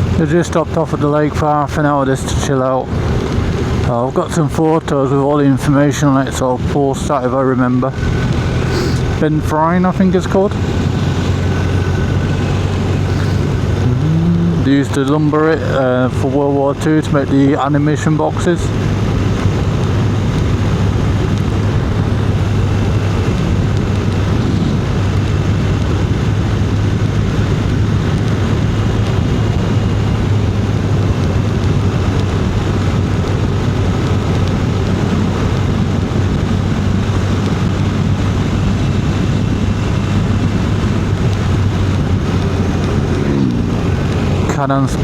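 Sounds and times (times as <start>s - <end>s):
wind and road noise: 0.0s - 45.0s
motorcycle engine running: 6.5s - 45.0s.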